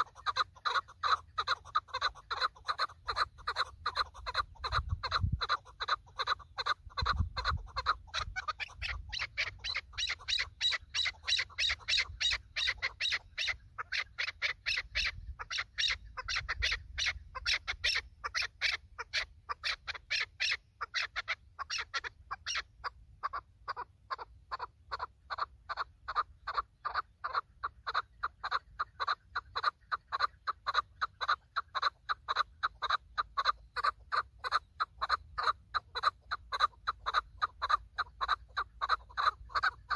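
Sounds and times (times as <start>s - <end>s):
partridge clucking calls: 0.0s - 39.9s.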